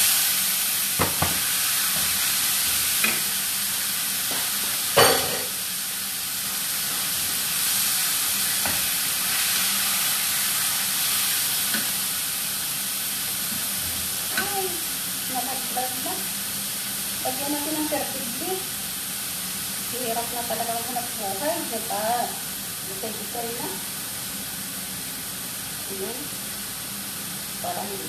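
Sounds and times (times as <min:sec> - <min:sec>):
chicken sizzling in a frying pan: 0:00.0 - 0:28.0.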